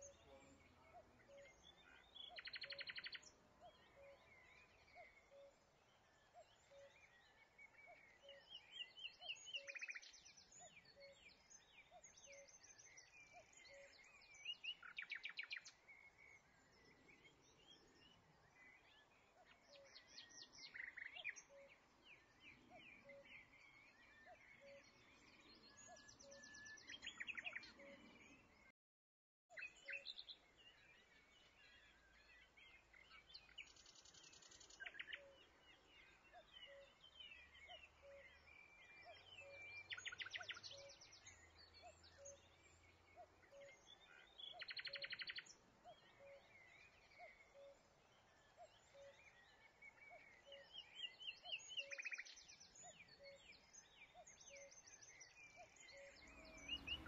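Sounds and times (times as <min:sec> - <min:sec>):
birds chirping and trilling: 0:00.0 - 0:28.7, 0:29.5 - 0:57.0.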